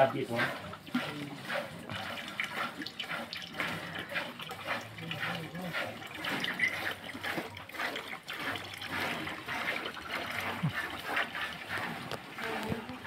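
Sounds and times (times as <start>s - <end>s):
milk squirting into bucket: 0.0s - 13.0s.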